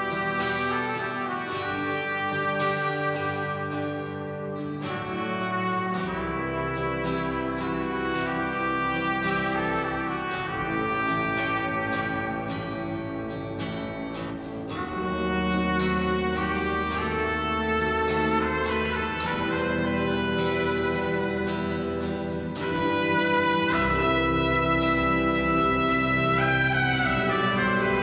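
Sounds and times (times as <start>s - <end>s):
brass instruments playing slow tune: 0.0s - 28.0s.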